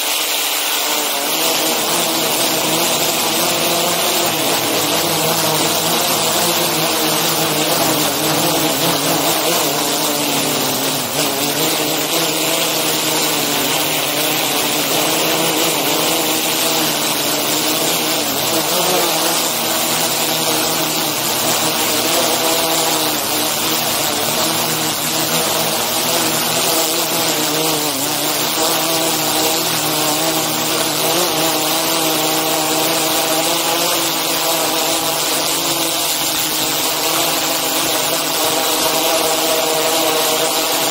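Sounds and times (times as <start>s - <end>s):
hiss: 0.0s - 40.9s
drone propellers whining: 1.2s - 40.9s.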